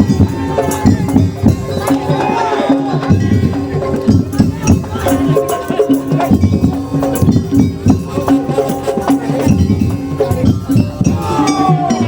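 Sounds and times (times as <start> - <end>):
clacking rattling percussion: 0.0 - 12.0
drums: 0.0 - 12.0.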